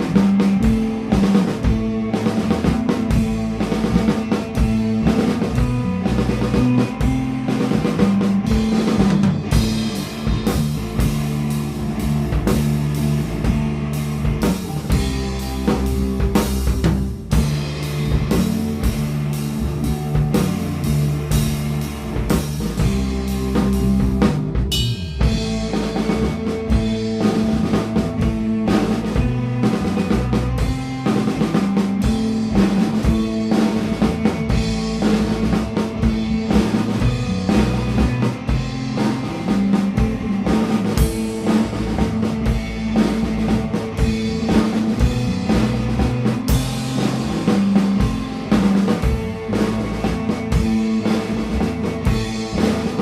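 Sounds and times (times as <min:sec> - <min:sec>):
drum kit kick and snare: 0:00.0 - 0:53.0
electric bass: 0:00.0 - 0:53.0
electric guitar: 0:00.0 - 0:53.0.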